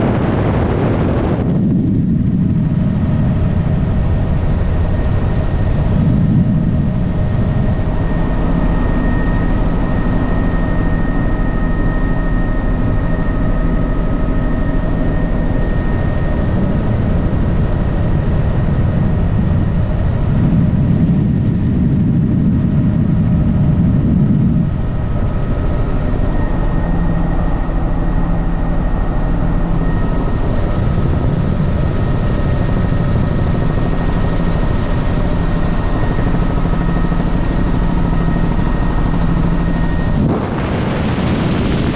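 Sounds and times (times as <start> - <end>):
helicopter rotor and engine noise: 0.0 - 41.9
high steady whine: 0.0 - 41.9.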